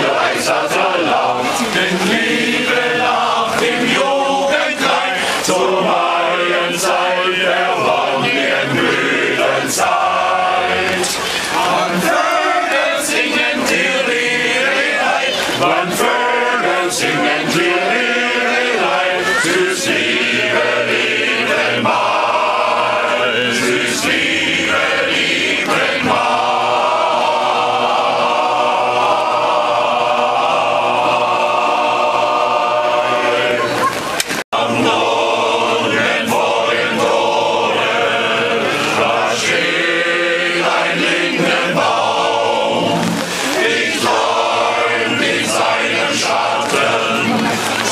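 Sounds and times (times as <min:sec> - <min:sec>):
men's choir singing: 0:00.0 - 0:47.9.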